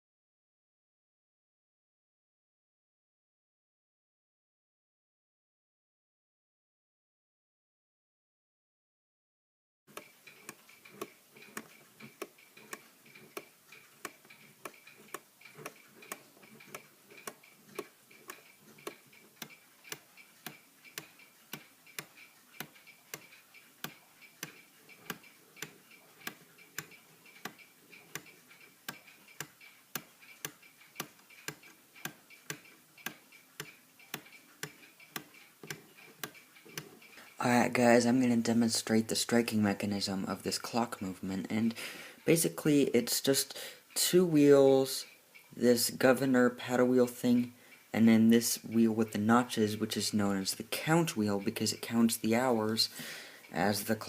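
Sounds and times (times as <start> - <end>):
clock ticking: 9.9 - 54.0.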